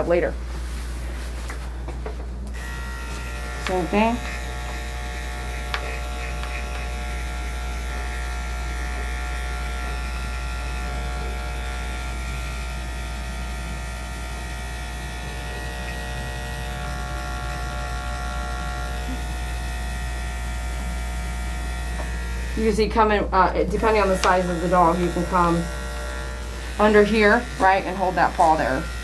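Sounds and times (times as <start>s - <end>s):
electric clippers running: 2.5s - 29.0s.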